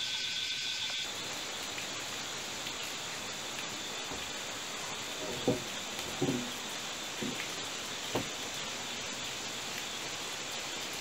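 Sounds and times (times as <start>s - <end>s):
even hiss: 0.0s - 11.0s
insects droning: 0.0s - 11.0s.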